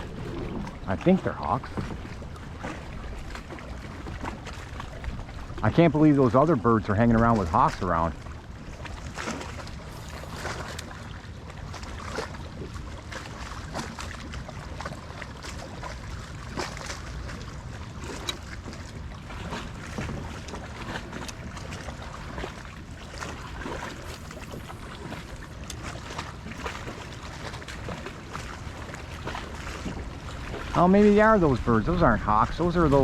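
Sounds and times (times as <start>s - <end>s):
waves lapping against kayak hull: 0.0s - 33.0s
wind rumble on microphone: 0.0s - 33.0s.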